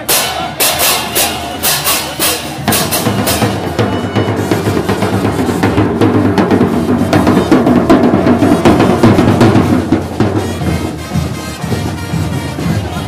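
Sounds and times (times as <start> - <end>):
bass drum beating: 0.0 - 13.0.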